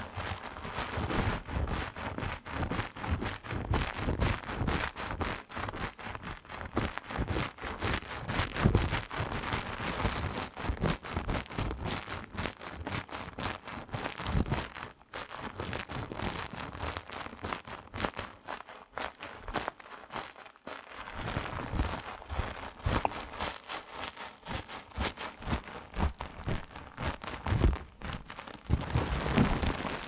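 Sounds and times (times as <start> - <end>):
crackling and rustling at microphone: 0.0 - 30.0.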